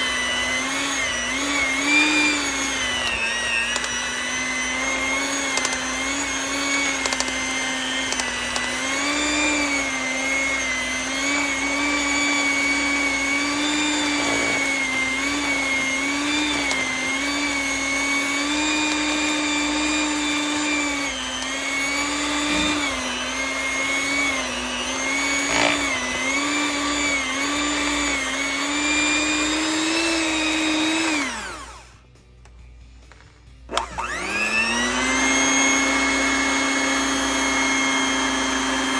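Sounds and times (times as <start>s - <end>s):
electric hand mixer whining: 0.0s - 32.2s, 33.6s - 38.9s.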